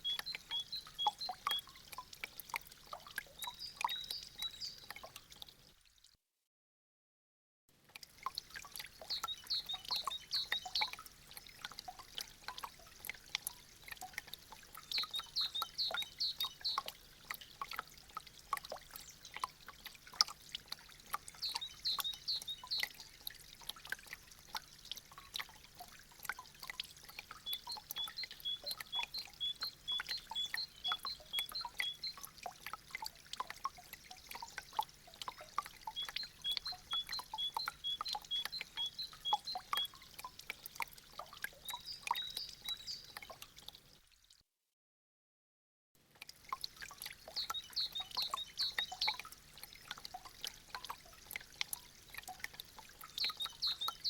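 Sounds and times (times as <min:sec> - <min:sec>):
meltwater dripping: 0:00.0 - 0:05.8, 0:07.8 - 0:44.4, 0:46.1 - 0:54.0.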